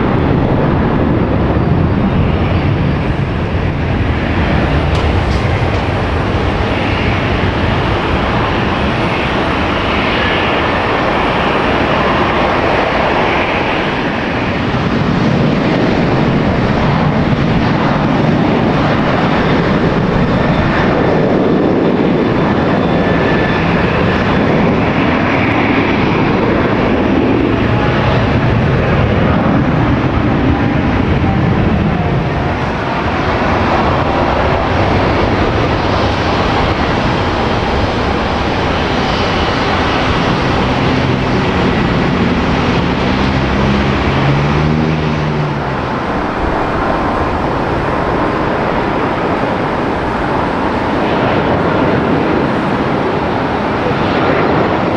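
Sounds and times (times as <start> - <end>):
airliner engines running: 0.0 - 54.9.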